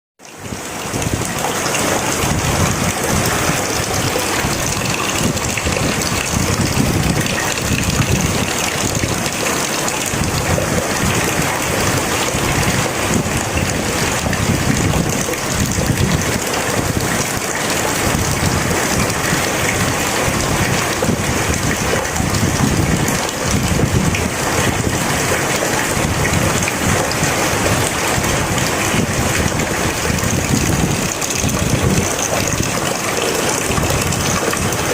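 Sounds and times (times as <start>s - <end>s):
heavy rain hissing: 0.4s - 34.9s.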